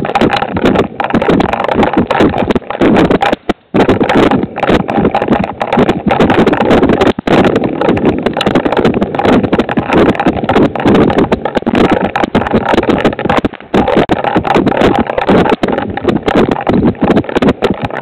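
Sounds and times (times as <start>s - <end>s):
heavy rain clatter: 0.0s - 18.0s.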